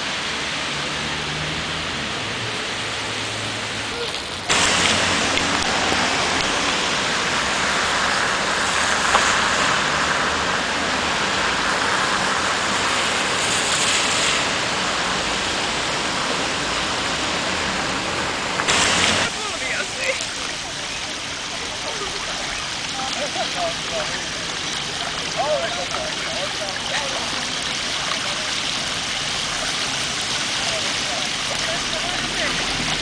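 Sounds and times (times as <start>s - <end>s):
heavy rain on pavement: 0.0s - 33.0s
road traffic: 0.0s - 33.0s.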